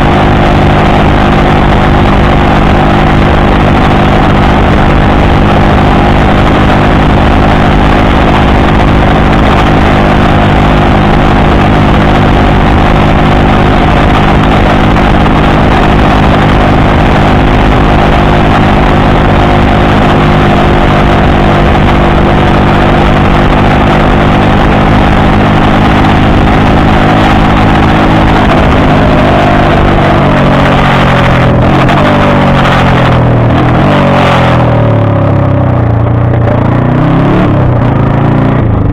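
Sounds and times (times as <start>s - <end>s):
moped engine exhaust: 0.0s - 38.9s.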